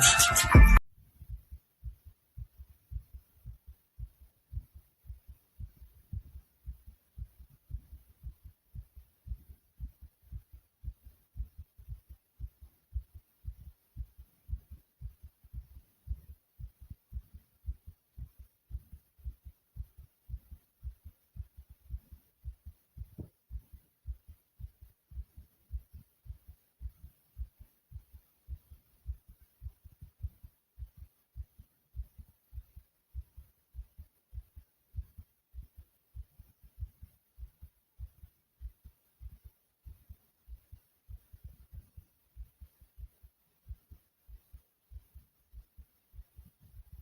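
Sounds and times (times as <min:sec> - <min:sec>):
heartbeat thumps: 0:00.0 - 0:47.0.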